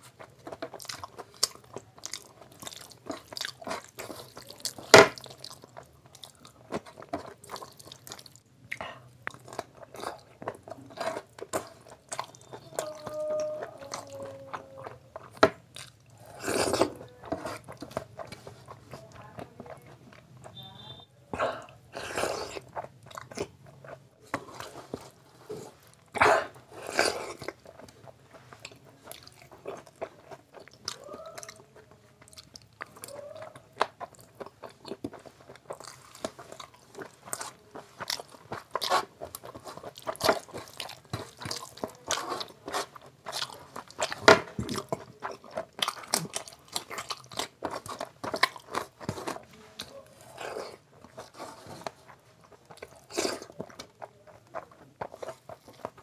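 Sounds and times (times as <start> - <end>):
chewing and mouth smacks: 0.0 - 21.0, 21.6 - 56.0.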